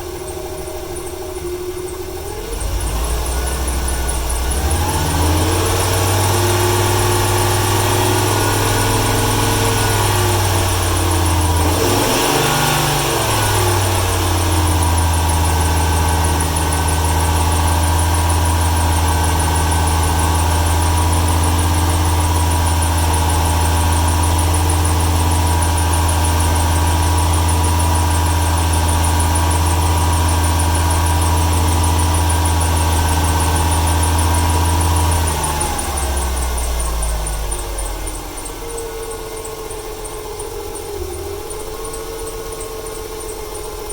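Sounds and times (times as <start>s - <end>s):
belt squeal: 0.0s - 43.9s
engine running with misfire: 0.0s - 43.9s.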